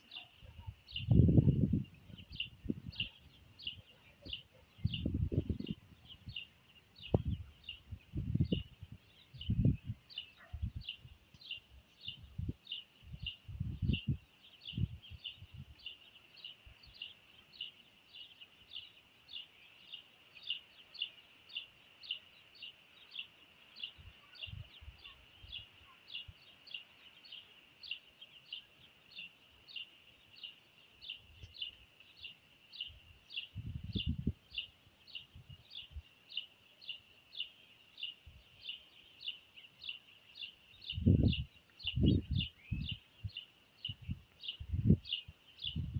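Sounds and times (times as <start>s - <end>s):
bird chirping: 0.0s - 45.9s.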